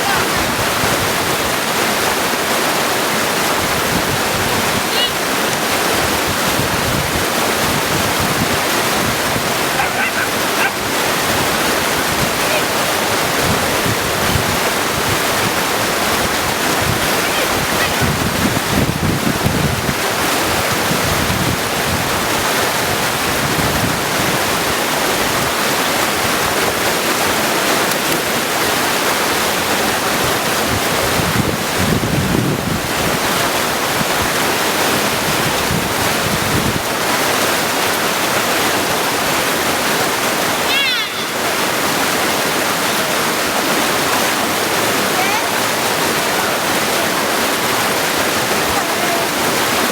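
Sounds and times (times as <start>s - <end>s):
creek rushing over stones: 0.0s - 49.9s.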